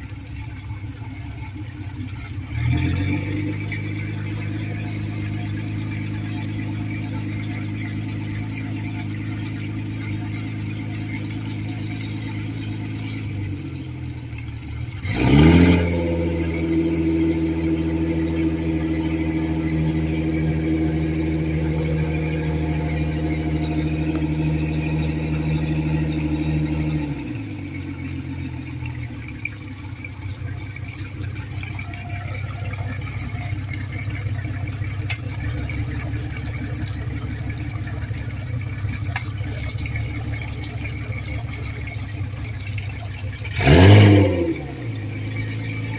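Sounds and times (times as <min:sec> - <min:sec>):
outboard motor idling and revving: 0:00.0 - 0:45.9.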